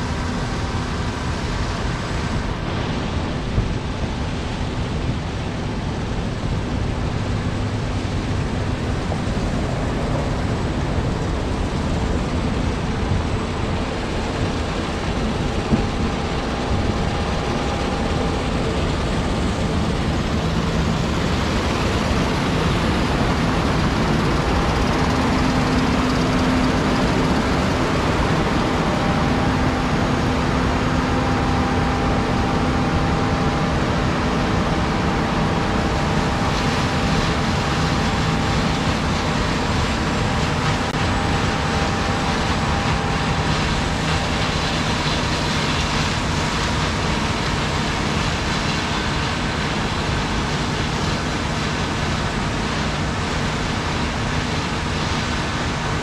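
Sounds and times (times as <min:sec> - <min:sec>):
loud steady motor noise: 0:00.0 - 0:56.0.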